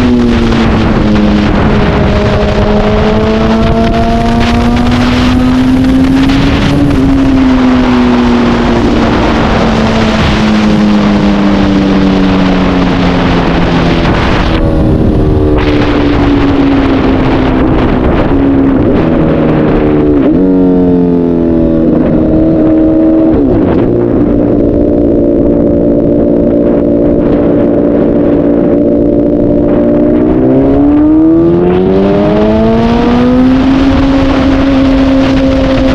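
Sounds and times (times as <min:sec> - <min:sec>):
motorcycle engine: 0:00.0 - 0:35.9
wind noise: 0:00.0 - 0:35.9.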